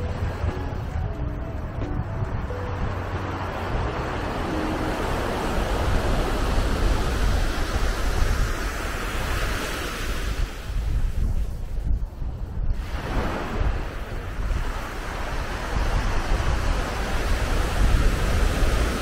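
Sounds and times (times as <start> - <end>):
wind rumbling on microphone: 0.0 - 19.0
waves washing over sandy beach: 2.8 - 19.0.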